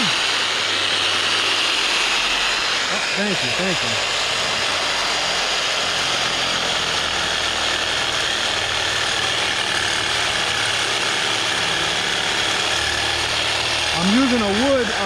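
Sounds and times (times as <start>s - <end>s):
reciprocating saw cutting metal pipe: 0.0s - 15.0s.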